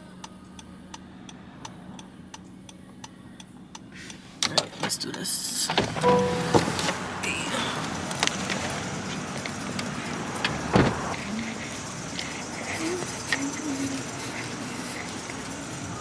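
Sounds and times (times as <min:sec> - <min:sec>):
cars passing on road: 0:00.0 - 0:16.0.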